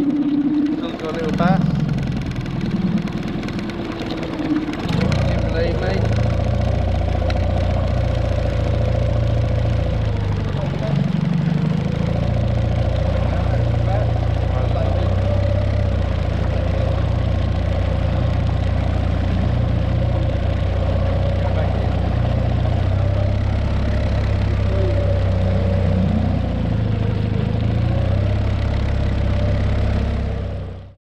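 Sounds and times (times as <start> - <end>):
wind and water rumble: 0.0 - 30.8
outboard motor running: 0.0 - 31.0.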